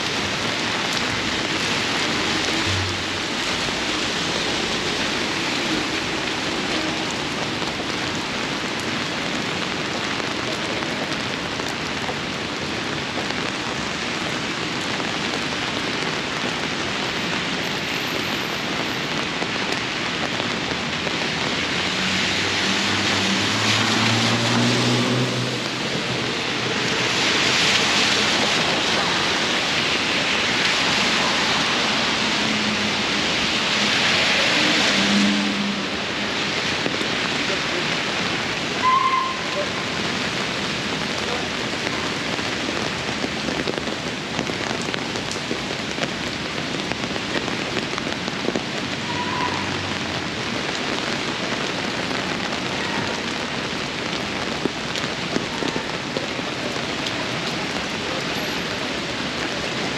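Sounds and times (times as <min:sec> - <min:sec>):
steady rain on street: 0:00.0 - 0:59.9
vehicles passing on wet road: 0:00.0 - 0:59.9.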